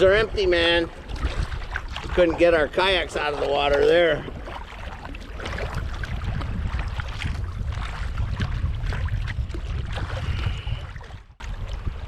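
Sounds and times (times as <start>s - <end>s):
paddle splashes: 0.0s - 12.0s
wind on microphone: 0.0s - 12.0s.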